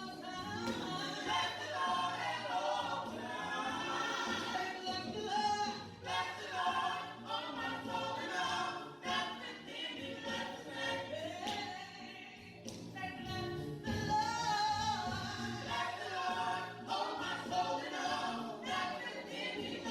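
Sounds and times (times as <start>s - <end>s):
gospel choir singing: 0.0s - 19.9s.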